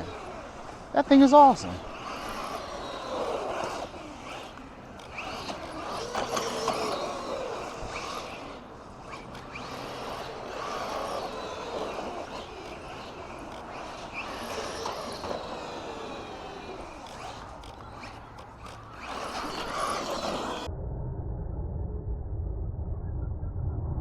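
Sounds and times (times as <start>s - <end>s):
rc car electric motor whining: 0.0s - 20.7s.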